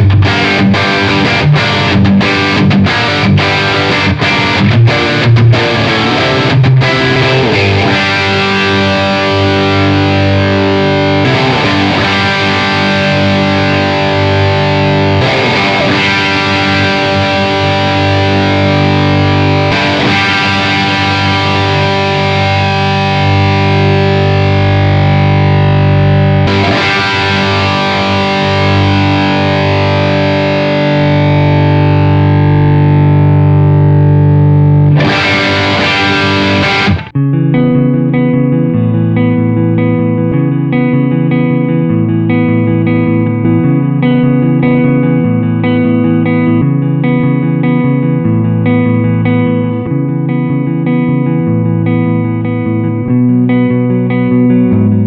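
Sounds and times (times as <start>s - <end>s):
distorted electric guitar chords: 0.0s - 55.0s.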